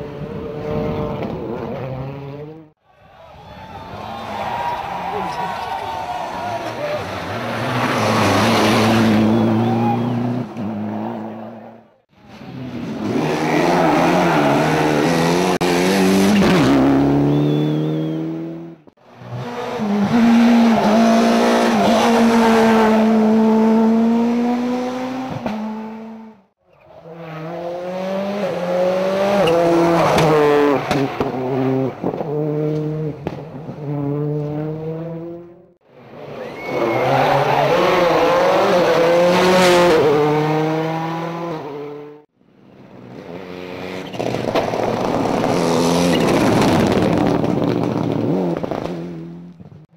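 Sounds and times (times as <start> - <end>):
rally car engines revving past: 6.6 - 49.8.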